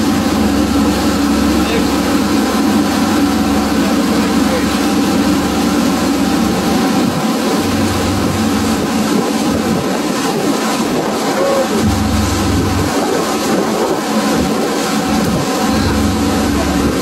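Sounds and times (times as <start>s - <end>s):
boat engine droning: 0.0s - 17.0s
water wash: 0.0s - 17.0s.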